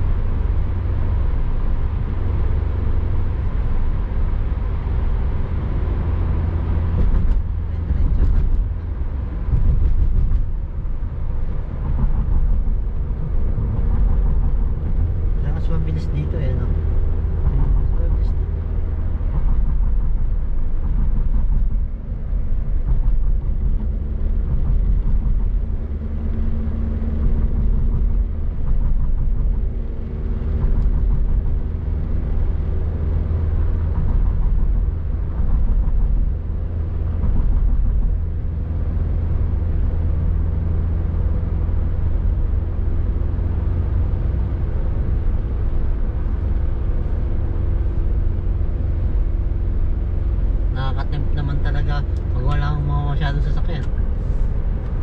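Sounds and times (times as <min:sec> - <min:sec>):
car engine hum: 0:00.0 - 0:55.0
road noise: 0:00.0 - 0:55.0.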